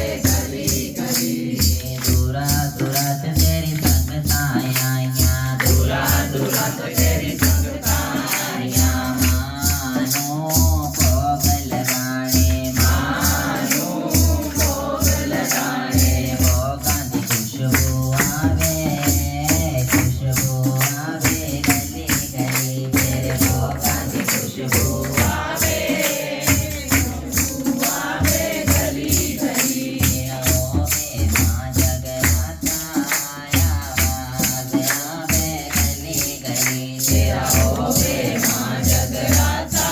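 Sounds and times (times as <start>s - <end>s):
drum beat: 0.0s - 39.9s
jingling rattling percussion: 0.0s - 39.9s
voices singing devotional music: 0.0s - 39.9s.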